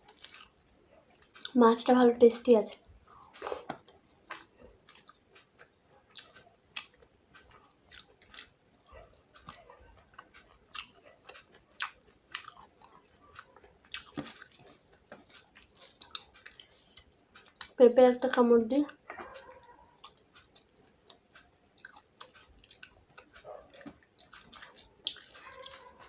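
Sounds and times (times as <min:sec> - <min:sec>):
chewing: 0:00.0 - 0:01.6, 0:02.7 - 0:17.8, 0:18.9 - 0:26.0.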